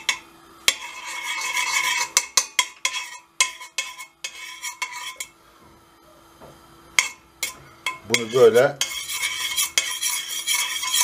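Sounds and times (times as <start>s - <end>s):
metal spoon scraping pot: 0.0s - 5.4s, 7.0s - 11.0s.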